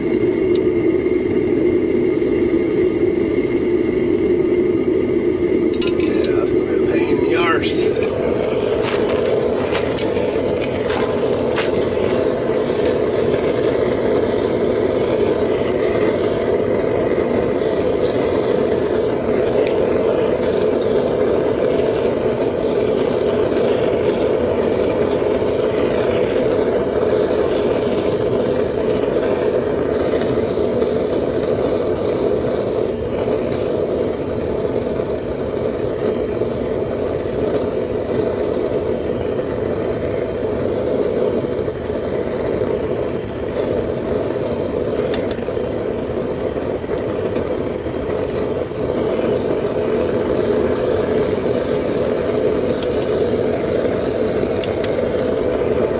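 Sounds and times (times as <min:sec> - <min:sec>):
burner flame rushing: 0:00.0 - 0:55.9.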